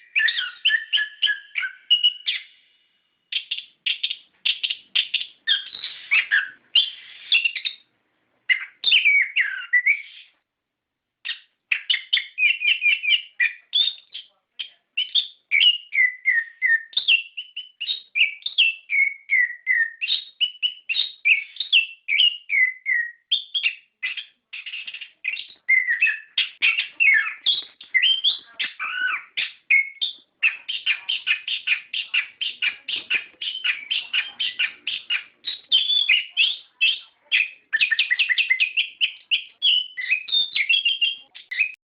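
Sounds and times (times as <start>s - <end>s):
thrush singing whistled phrases: 0.0s - 7.9s, 8.5s - 10.4s, 11.3s - 41.8s.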